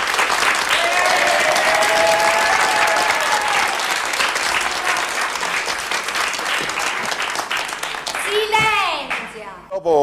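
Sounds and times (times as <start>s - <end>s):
people applauding: 0.0s - 9.4s.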